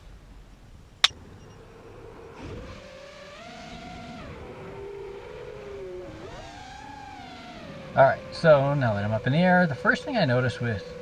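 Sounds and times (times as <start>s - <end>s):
quadcopter motors whining: 1.1s - 11.0s.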